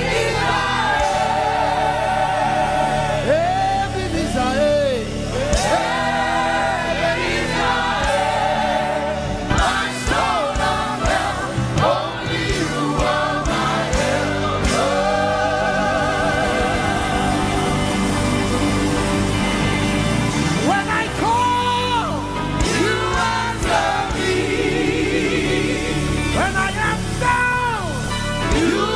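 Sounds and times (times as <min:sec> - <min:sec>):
choir singing gospel: 0:00.0 - 0:28.9
instrumental accompaniment: 0:00.1 - 0:28.9.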